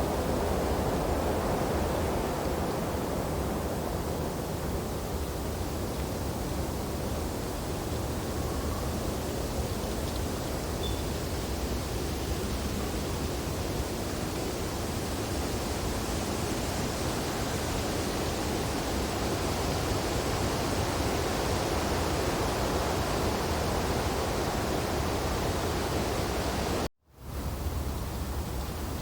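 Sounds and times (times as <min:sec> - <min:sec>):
wind through tree branches: 0:00.0 - 0:29.0.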